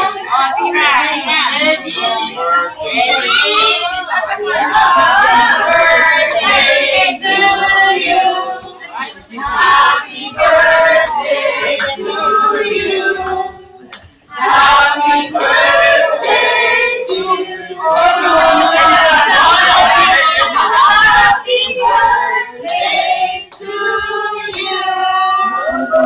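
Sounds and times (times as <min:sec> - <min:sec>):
group of people singing: 0:00.0 - 0:26.0.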